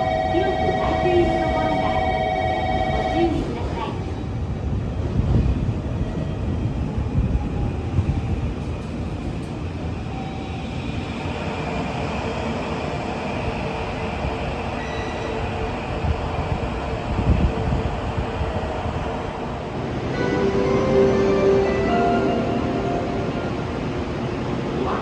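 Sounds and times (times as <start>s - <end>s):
train wheels rumbling on rails: 0.0s - 20.2s.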